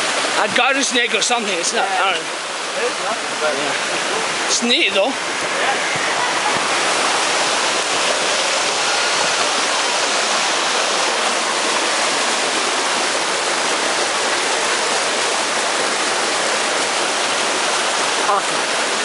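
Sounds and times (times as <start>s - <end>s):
water rushing over boulders: 0.0s - 19.0s.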